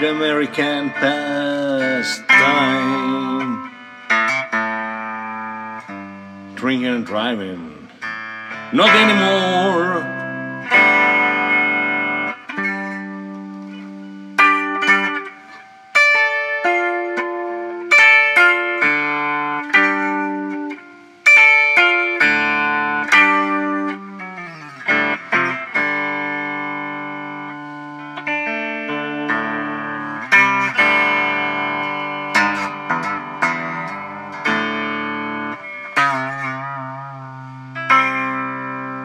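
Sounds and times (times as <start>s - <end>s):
electric guitar solo: 0.0s - 39.0s.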